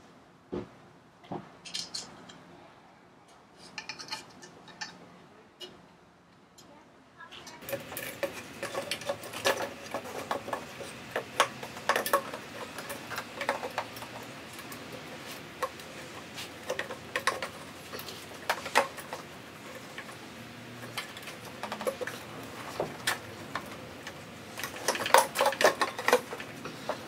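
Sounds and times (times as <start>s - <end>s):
hard parts clicking and knocking: 1.2s - 2.4s, 3.6s - 5.0s, 7.4s - 27.0s.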